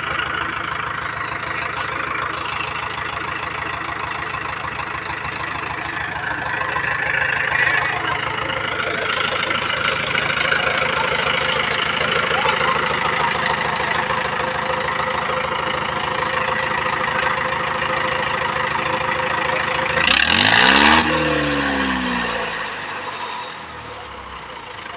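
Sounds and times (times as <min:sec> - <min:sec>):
tractor diesel engine idling: 0:00.0 - 0:24.9.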